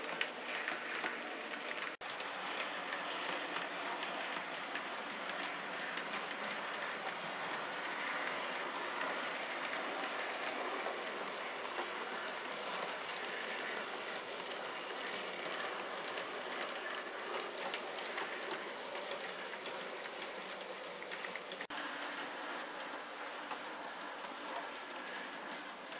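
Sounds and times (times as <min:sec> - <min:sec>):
model train wheels rattling on rail: 0:00.0 - 0:25.9.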